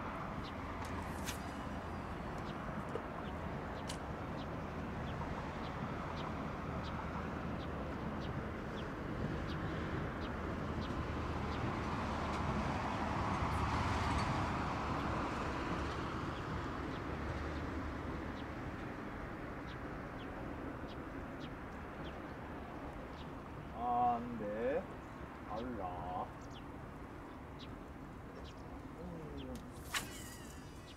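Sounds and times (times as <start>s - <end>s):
road traffic rumble: 0.0s - 30.9s.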